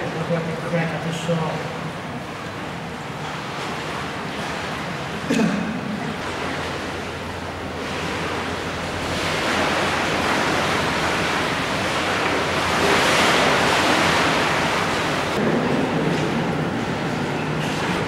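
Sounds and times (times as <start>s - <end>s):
waves washing under concrete deck: 0.0s - 18.0s.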